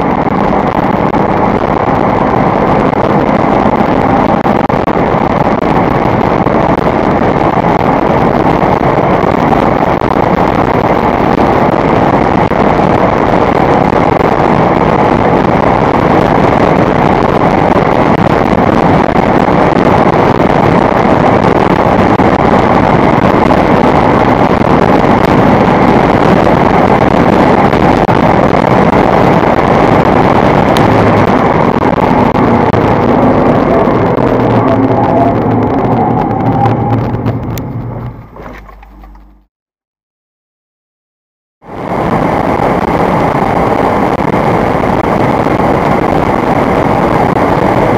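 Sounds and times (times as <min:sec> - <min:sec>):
car engine at high speed: 0:00.0 - 0:39.5, 0:41.6 - 0:47.9
wind and road noise: 0:00.0 - 0:39.5, 0:41.6 - 0:47.9.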